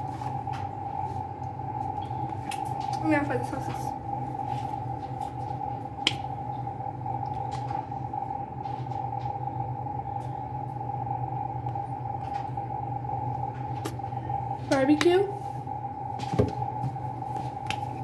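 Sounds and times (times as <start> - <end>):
two-tone machine hum: 0.0 - 18.0.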